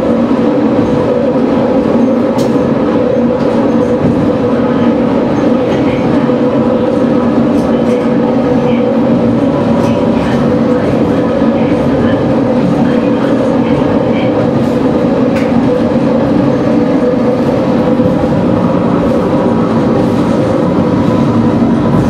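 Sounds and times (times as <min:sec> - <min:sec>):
railcar engine and wheels drone: 0:00.0 - 0:22.0.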